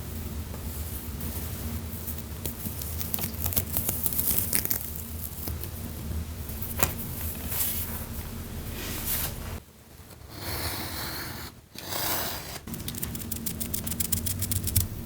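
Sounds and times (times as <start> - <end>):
steady low hum: 0.0 - 10.4, 12.6 - 15.0.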